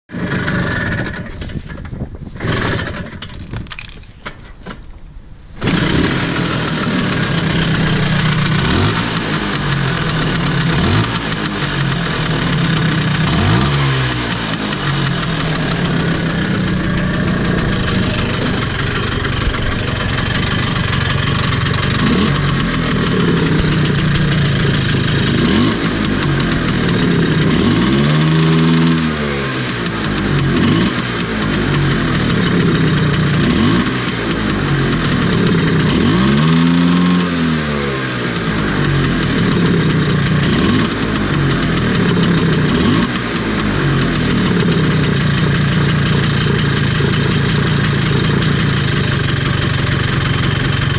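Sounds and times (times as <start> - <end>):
scooter engine running: 0.1 - 4.0, 5.6 - 50.9
engine knocking: 5.6 - 50.9.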